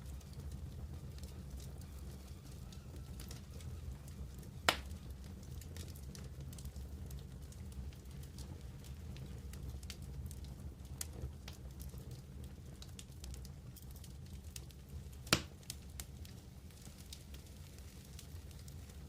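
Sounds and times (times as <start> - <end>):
campfire crackling: 0.0 - 19.0
fire popping: 0.0 - 19.0.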